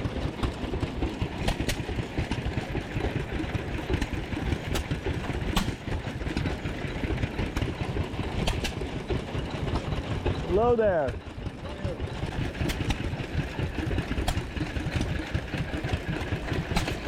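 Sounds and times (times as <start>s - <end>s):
old engines chugging: 0.0s - 17.0s
sharp engine clicks: 0.0s - 17.0s.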